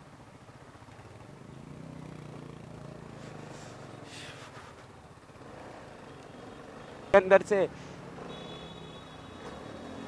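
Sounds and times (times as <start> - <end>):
faint vehicle engine hum: 0.0 - 10.0.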